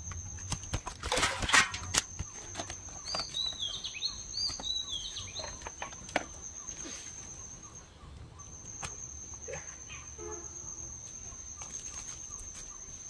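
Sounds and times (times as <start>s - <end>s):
high insect drone: 0.0s - 13.0s
bird calling: 1.8s - 13.0s.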